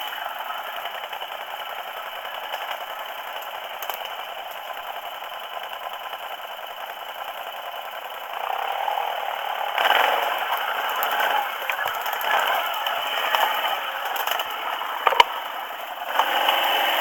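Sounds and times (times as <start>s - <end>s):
quad bike engine running: 0.0s - 17.0s
vehicle rattling: 0.0s - 17.0s.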